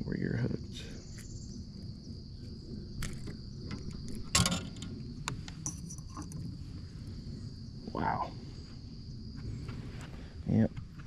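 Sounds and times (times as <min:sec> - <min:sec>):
insects trilling: 0:00.0 - 0:11.0
low background rumble: 0:00.0 - 0:11.0.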